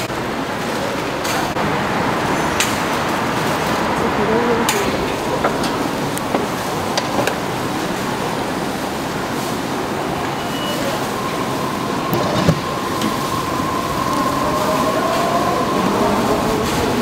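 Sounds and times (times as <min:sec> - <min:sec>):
market stall bustle: 0:00.0 - 0:17.0.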